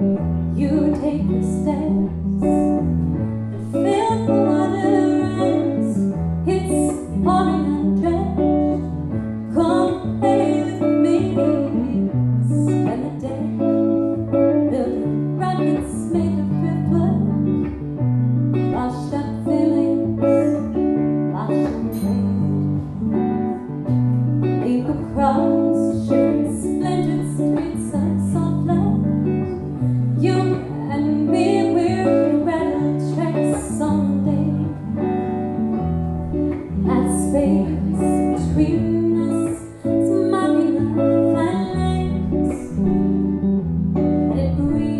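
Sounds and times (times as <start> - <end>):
picked guitar notes: 0.0 - 44.9.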